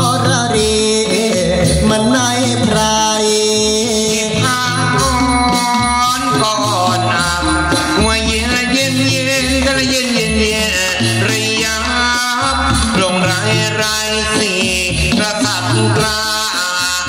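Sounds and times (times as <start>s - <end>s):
instrumental music with low beat: 0.0s - 17.0s
person singing wavering melody: 0.0s - 17.0s.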